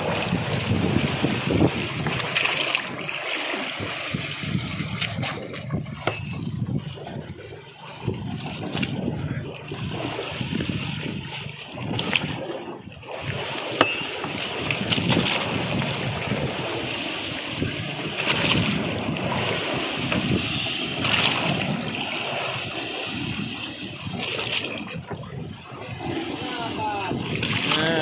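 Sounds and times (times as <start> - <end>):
splashes and knocks: 0.0 - 28.0
water sloshing against boat hull: 0.0 - 28.0
wind on microphone: 0.0 - 28.0.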